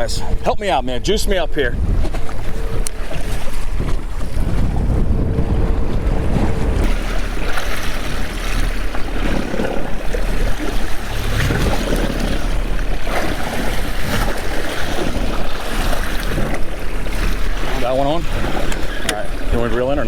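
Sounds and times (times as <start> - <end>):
steady low rumble: 0.0 - 20.0
wind buffeting microphone: 0.0 - 20.0
water slapping against boat hull: 1.8 - 20.0
water splashes: 1.8 - 20.0.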